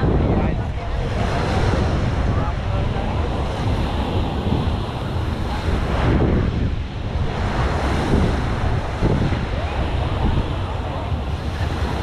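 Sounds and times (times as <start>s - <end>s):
surf washing on beach: 0.0s - 12.0s
wind rumbling on microphone: 0.0s - 12.0s.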